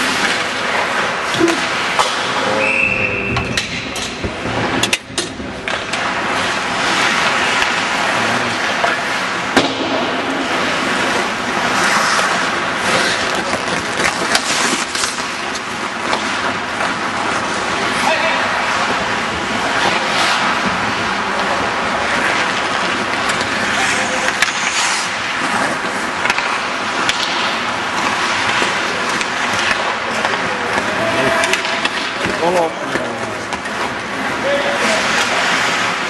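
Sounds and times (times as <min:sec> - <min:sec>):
hockey sticks and puck clacking: 0:00.0 - 0:02.6, 0:03.3 - 0:36.0
skate blades scraping ice: 0:00.0 - 0:02.6, 0:05.6 - 0:36.0.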